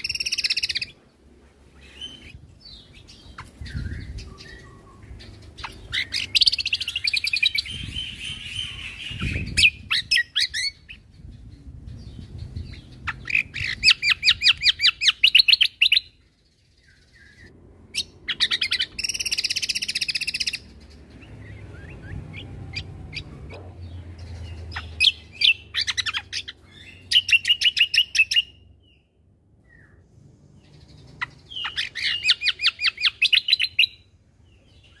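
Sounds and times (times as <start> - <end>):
songbird chattering trills: 1.8 - 28.6, 30.6 - 35.0.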